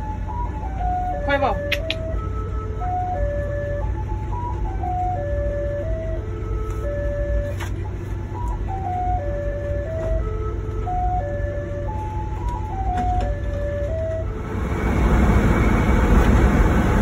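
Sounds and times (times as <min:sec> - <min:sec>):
ice cream truck chime jingle: 0:00.0 - 0:14.6
truck engine rumble: 0:00.0 - 0:17.0.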